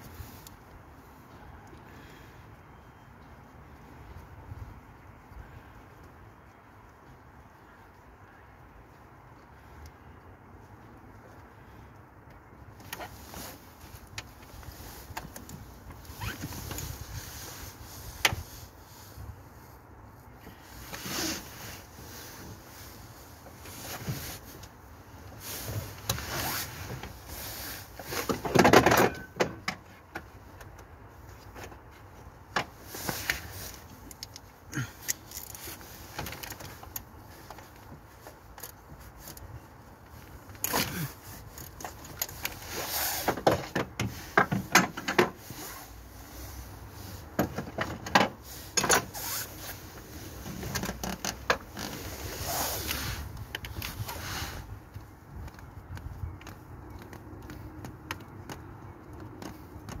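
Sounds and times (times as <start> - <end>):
rustling hands and tools: 0.0 - 60.0.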